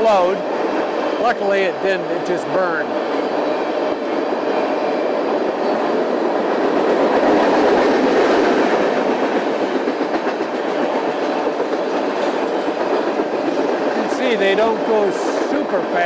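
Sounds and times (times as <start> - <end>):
freight train rumbling past: 0.0 - 16.0
steel wheels on rails: 0.0 - 16.0.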